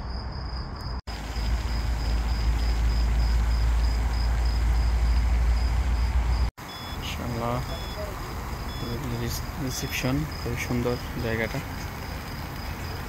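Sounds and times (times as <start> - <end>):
cricket chirping trill: 0.0 - 13.0
low steady rumble: 1.1 - 13.0.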